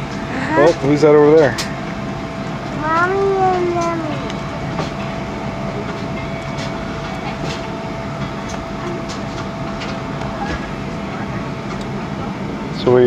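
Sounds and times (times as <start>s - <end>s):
airliner engine rumble and hiss: 0.0s - 13.0s.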